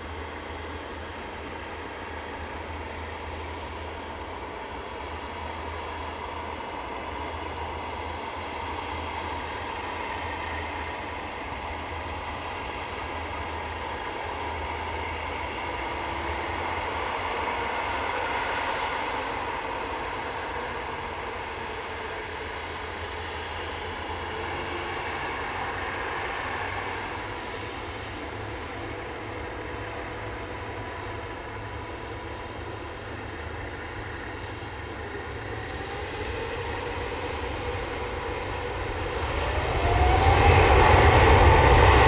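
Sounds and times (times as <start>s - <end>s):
jet engines whining and rumbling: 0.0s - 42.0s.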